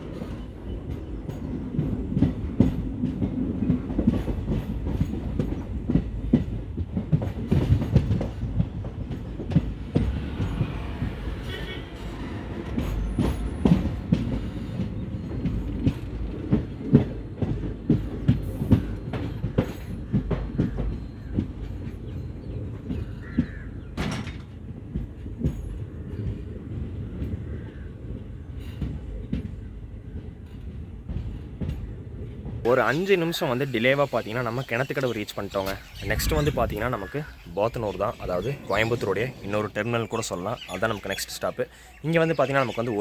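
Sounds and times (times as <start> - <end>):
low train rumble: 0.0 - 43.0
train wheels clacking over rail joints: 0.0 - 43.0.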